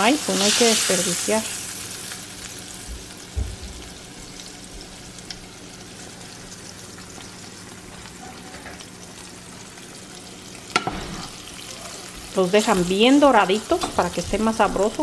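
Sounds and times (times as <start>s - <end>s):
fish frying in oil: 0.0s - 15.0s.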